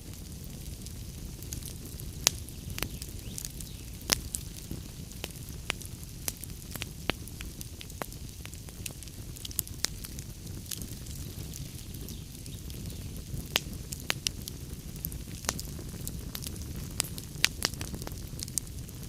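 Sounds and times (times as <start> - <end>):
fire rumbling: 0.0 - 19.0
wood crackling and popping: 0.0 - 19.0.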